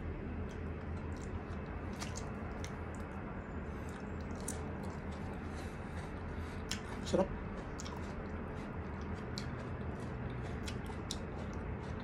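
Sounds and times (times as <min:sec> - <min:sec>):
steady low hum: 0:00.0 - 0:12.0
wet chewing mouth clicks: 0:00.4 - 0:03.2, 0:03.8 - 0:12.0.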